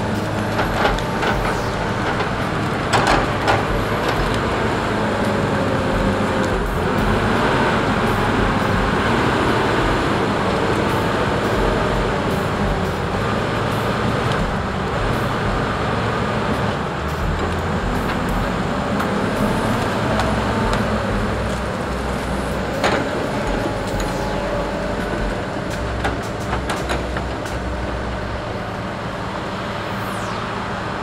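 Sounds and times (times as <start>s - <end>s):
heavy diesel machines running: 0.0s - 31.0s.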